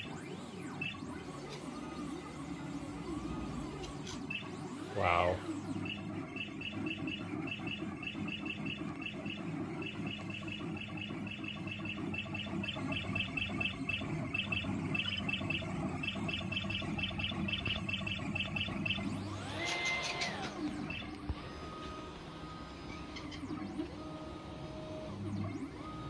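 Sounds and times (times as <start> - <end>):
stepper motors chirping: 0.2 - 21.7.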